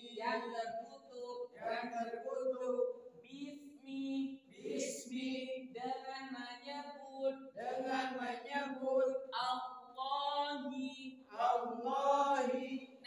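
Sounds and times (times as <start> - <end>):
men chanting verses: 0.0 - 13.0.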